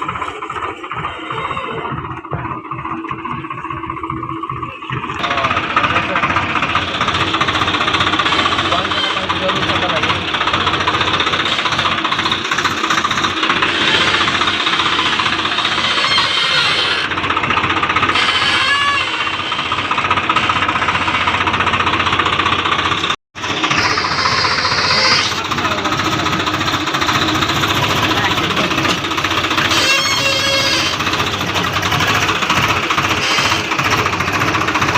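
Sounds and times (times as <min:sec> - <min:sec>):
tractor diesel engine clattering: 0:00.0 - 0:34.9.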